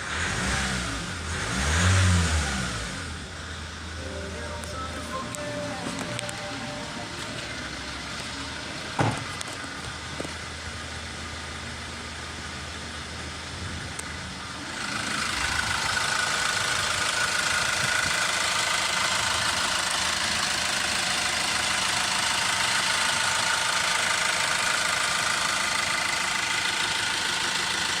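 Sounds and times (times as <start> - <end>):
van engine humming: 0.0 - 28.0.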